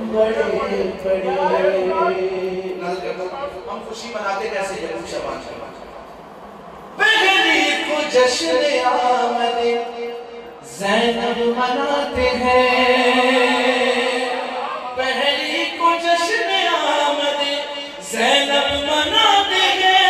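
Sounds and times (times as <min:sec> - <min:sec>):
man singing into a microphone: 0:00.0 - 0:03.6, 0:07.0 - 0:20.0.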